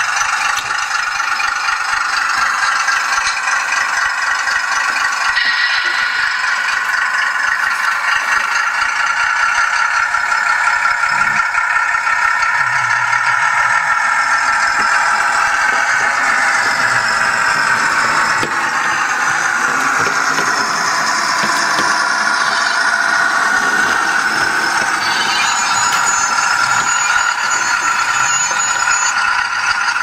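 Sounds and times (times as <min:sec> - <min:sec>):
diesel engine sound from tiny speaker: 0:00.0 - 0:30.0.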